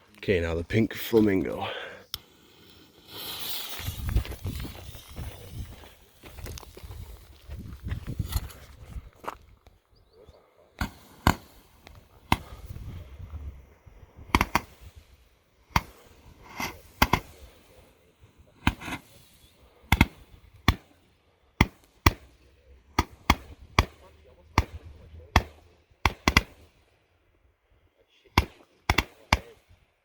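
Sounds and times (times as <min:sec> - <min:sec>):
fireworks popping and crackling: 0:02.2 - 0:09.2, 0:10.8 - 0:26.9, 0:28.4 - 0:29.8.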